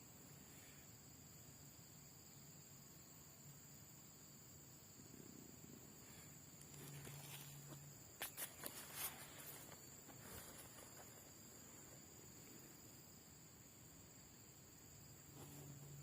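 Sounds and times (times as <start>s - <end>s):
crickets droning: 0.0s - 16.0s.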